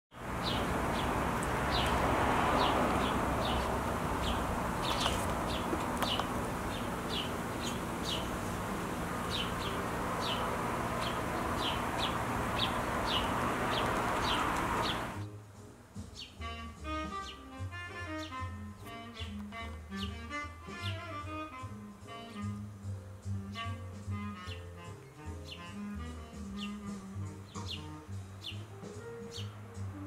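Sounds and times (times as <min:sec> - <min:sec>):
sparrow chirping: 0:00.2 - 0:15.3, 0:16.0 - 0:17.5, 0:18.1 - 0:21.0, 0:23.4 - 0:29.6.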